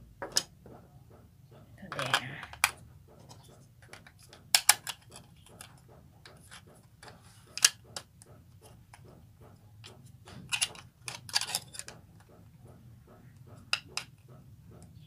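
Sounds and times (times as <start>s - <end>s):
plastic clicks and knocks: 0.2s - 15.0s.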